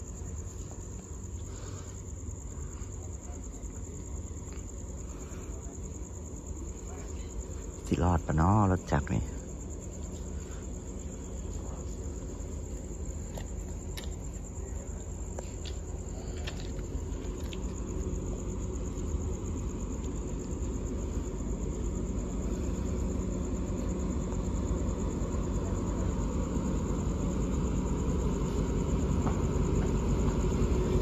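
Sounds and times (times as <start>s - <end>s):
crickets chirping: 0.0s - 31.0s
locomotive engine rumble: 0.0s - 31.0s.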